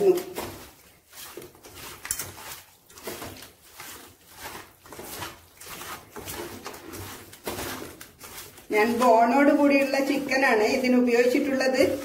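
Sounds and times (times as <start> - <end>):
hand squishing chicken in marinade: 0.0 - 12.0.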